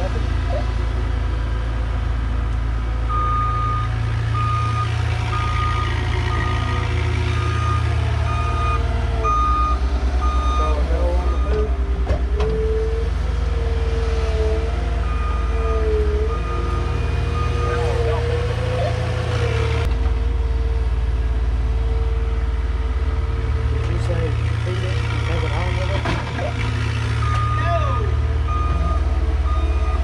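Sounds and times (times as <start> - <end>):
diesel engines running: 0.0 - 30.0.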